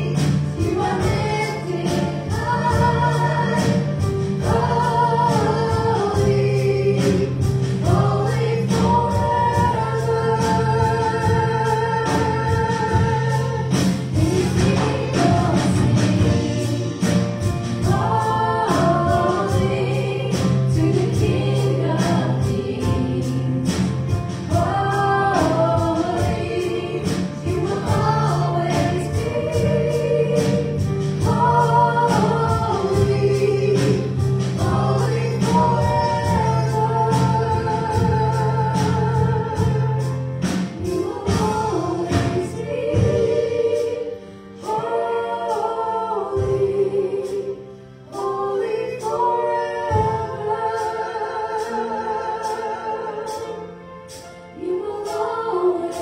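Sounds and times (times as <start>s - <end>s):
band accompaniment with steady beat: 0.0s - 56.0s
group singing a worship song: 0.0s - 56.0s.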